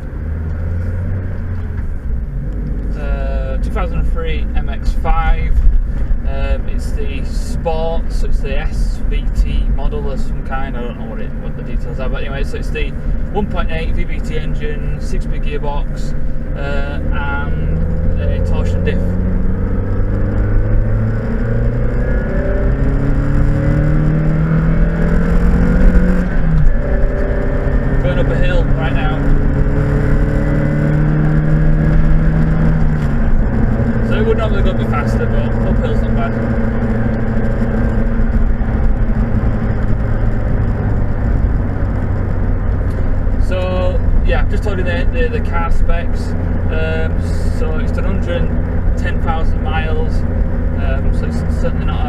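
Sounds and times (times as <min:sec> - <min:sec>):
car engine pulling under load: 0:00.0 - 0:52.0
tyre and road noise: 0:00.0 - 0:52.0.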